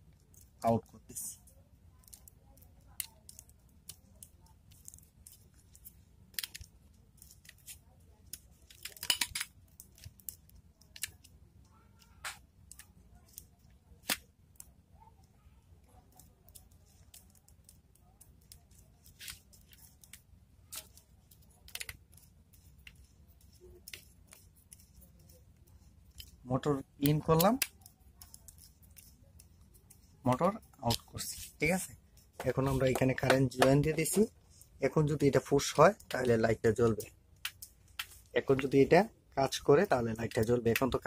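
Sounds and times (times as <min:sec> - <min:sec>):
wires clicking and rustling: 0:00.0 - 0:41.0.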